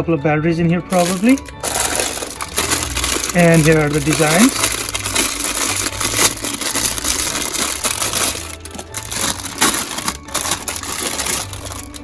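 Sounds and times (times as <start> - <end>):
plastic bag crinkling: 0.9 - 12.0.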